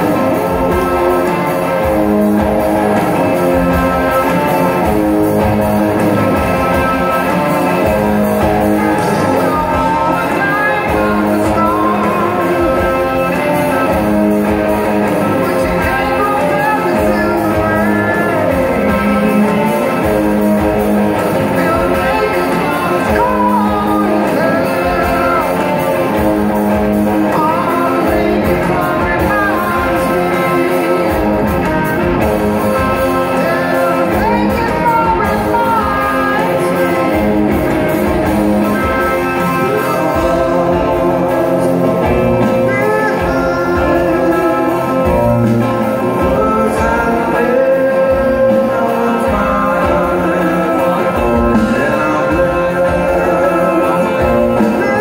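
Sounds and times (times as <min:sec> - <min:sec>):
guitar accompaniment: 0:00.0 - 0:55.0
man singing lead vocal: 0:00.0 - 0:55.0.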